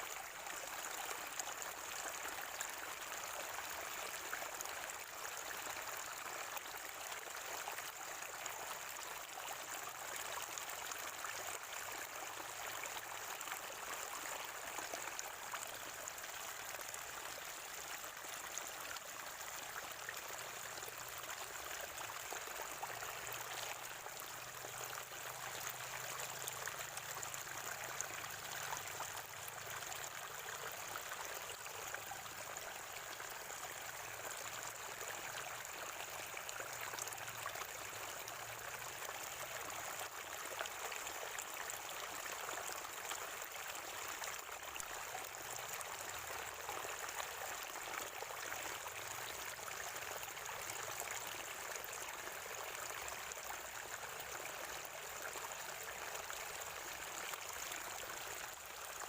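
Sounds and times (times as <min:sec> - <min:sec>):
spring water gurgling: 0:00.0 - 0:59.0.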